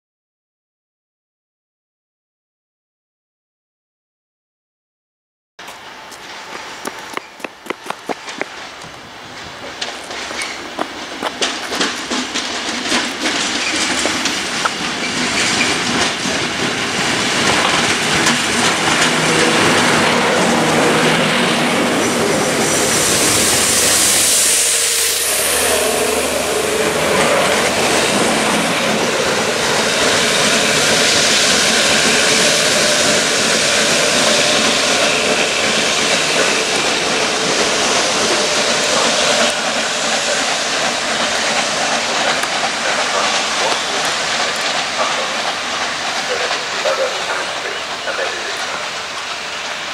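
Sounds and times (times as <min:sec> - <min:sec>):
train wheels rumbling on rails: 0:05.6 - 0:49.9
loud hiss: 0:05.7 - 0:49.9.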